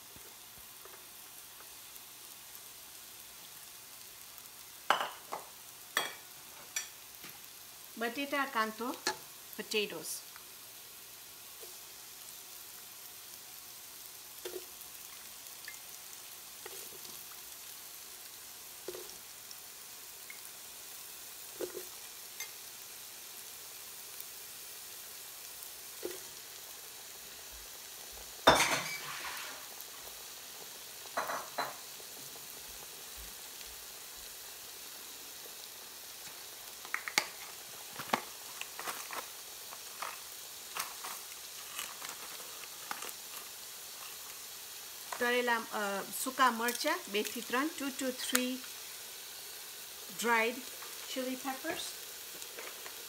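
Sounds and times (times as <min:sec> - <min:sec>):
food sizzling in oil: 0:00.0 - 0:53.0.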